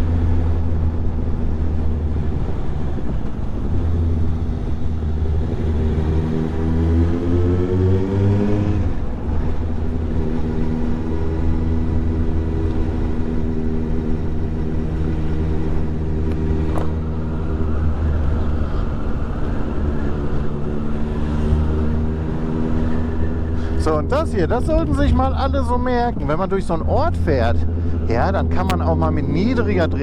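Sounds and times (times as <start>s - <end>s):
motorcycle engine: 0.0s - 30.0s.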